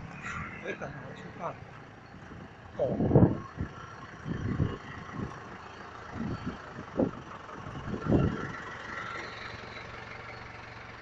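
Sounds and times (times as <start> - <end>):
crane engine running: 0.0 - 11.0.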